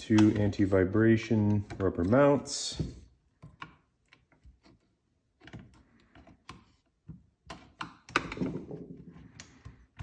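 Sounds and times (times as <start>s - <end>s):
plastic parts clicking and knocking: 0.0s - 10.0s.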